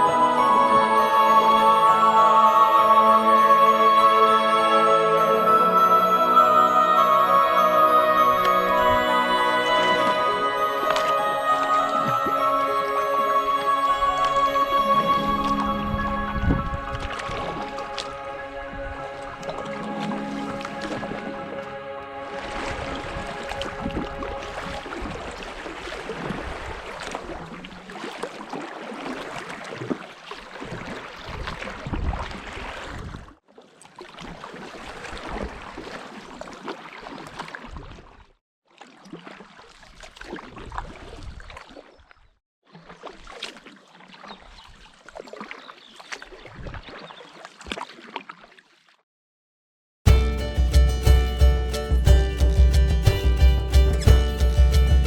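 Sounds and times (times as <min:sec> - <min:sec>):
water splashing around paddled boat: 0:07.1 - 0:49.0, 0:50.1 - 0:55.0.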